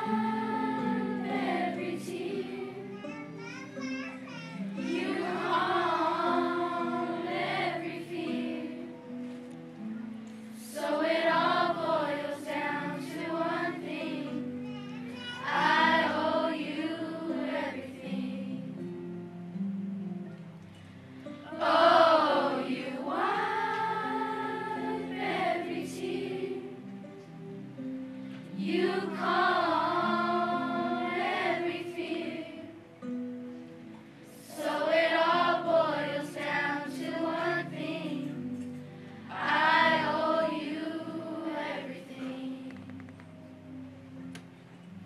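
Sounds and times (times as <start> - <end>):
children's choir singing: 0.0 - 3.3, 4.6 - 19.2, 21.3 - 27.4, 28.4 - 33.2, 33.9 - 43.0
quiet steady accompaniment: 0.0 - 45.0.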